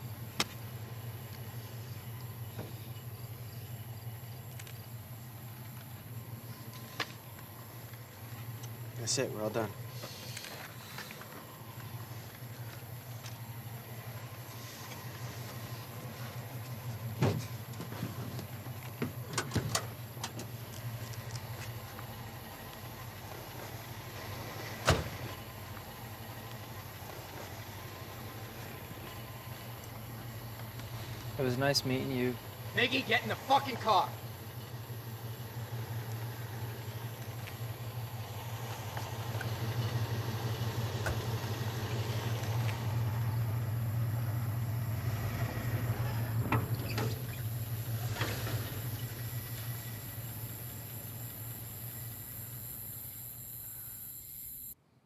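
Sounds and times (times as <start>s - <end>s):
car engine idling: 0.0s - 54.3s.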